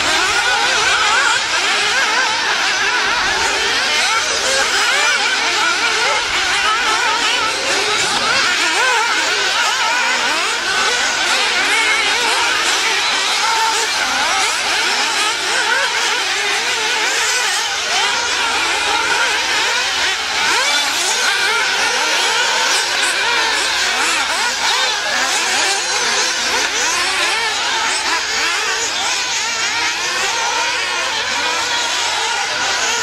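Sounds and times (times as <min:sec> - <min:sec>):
rc buggy engines revving: 0:00.0 - 0:33.0.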